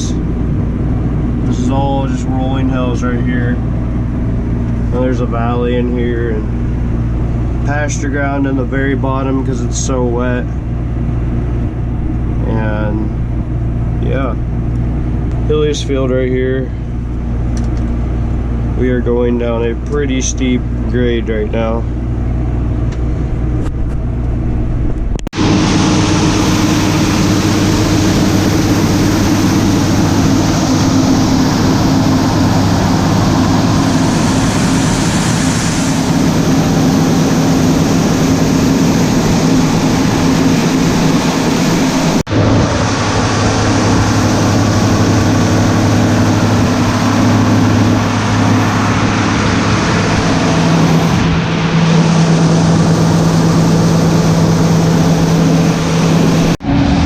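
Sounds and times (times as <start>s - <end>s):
heavy farm machinery engine: 0.0s - 57.0s.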